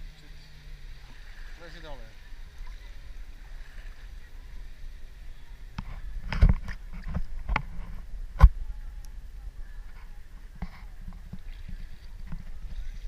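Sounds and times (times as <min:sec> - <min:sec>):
water lapping against camera housing: 0:00.0 - 0:13.0.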